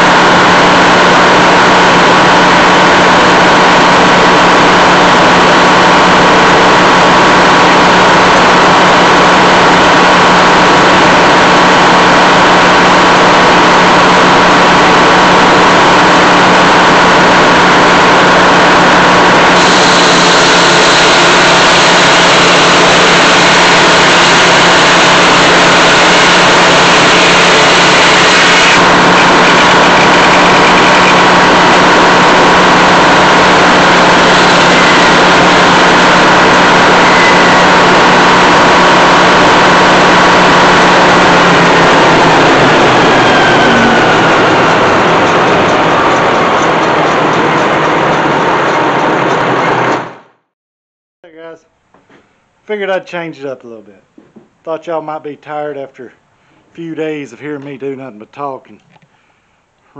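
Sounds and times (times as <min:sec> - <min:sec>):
circular saw blade cutting log: 0:00.0 - 0:50.0
sawmill machine hum: 0:00.0 - 0:50.4.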